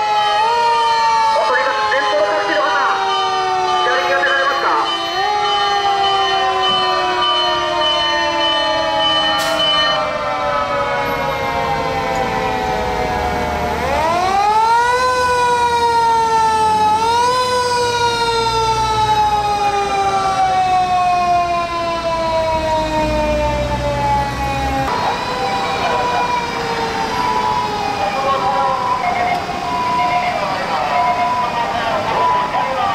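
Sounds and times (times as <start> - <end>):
sirens wailing: 0.0 - 32.9
trucks rumbling: 0.0 - 32.9.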